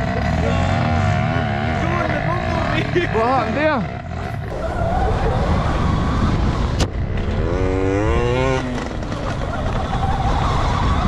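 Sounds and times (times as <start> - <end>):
dirt bike engine rumbling: 0.0 - 11.0.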